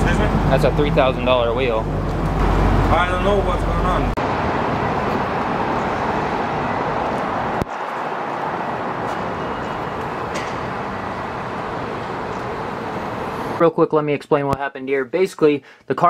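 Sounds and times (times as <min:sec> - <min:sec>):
traffic rushing noise: 0:00.0 - 0:13.6.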